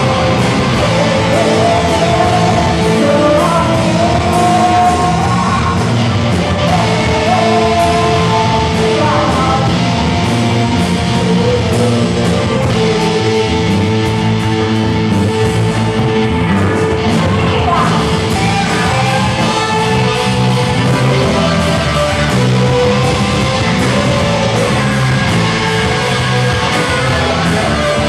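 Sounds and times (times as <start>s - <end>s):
person singing: 0.0s - 14.6s, 15.8s - 28.0s
drums: 0.0s - 28.0s
electric guitars: 0.0s - 28.0s.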